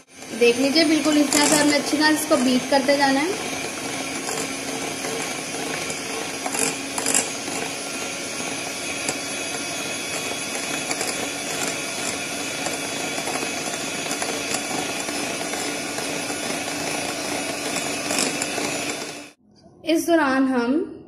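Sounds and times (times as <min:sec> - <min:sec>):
electric hand mixer running: 0:00.0 - 0:19.4.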